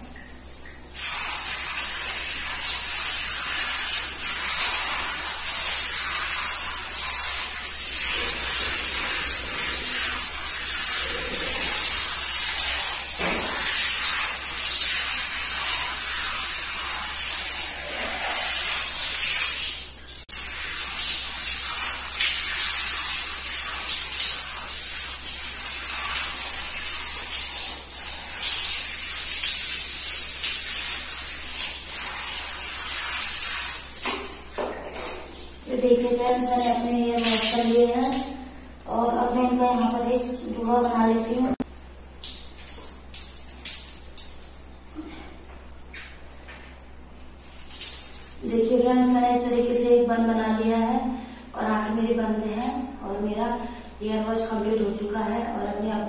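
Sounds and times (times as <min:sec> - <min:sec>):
water splashing onto hair: 0:00.0 - 0:44.7, 0:46.8 - 0:49.2
shower sprayer hissing: 0:00.9 - 0:45.2, 0:47.4 - 0:48.4.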